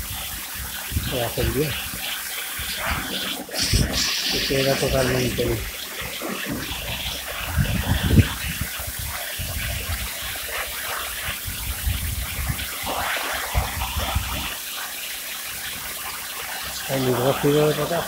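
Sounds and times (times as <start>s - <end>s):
pressure washer spraying water: 0.0s - 18.0s.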